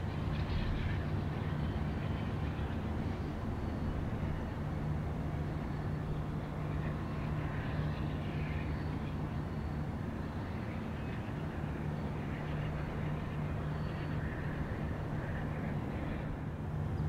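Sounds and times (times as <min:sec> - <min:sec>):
distant locomotive engine humming: 0:00.0 - 0:17.0.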